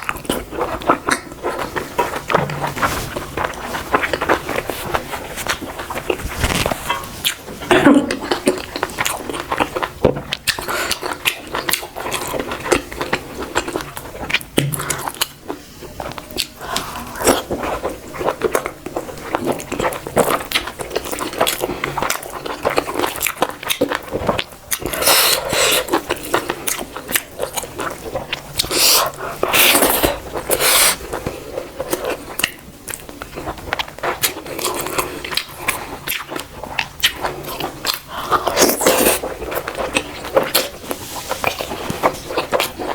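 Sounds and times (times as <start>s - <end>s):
chewing and biting: 0.0s - 42.9s.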